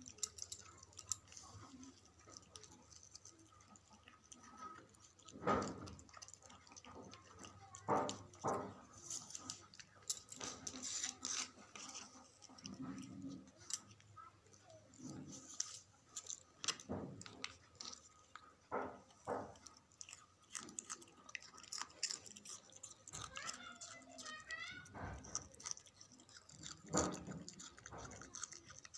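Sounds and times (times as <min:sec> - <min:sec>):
puppy chewing food: 0:00.0 - 0:28.9.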